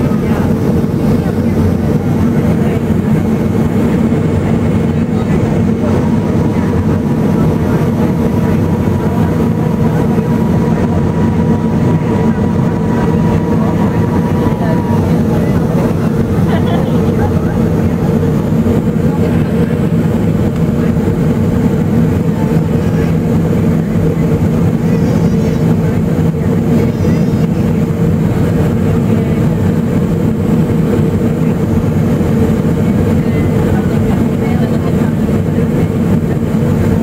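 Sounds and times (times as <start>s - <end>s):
airliner cabin engine drone: 0.0s - 37.0s.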